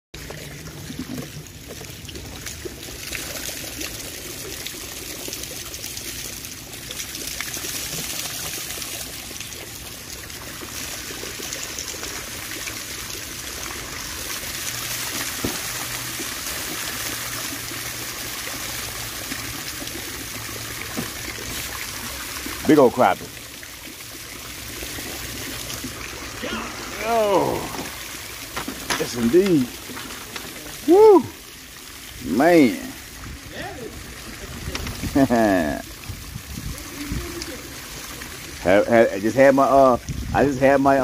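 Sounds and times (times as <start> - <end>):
water trickling and pouring: 0.2 - 41.0.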